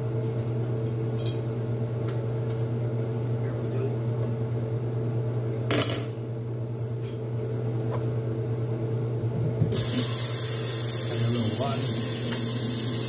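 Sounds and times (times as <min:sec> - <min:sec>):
appliance hum: 0:00.0 - 0:13.0.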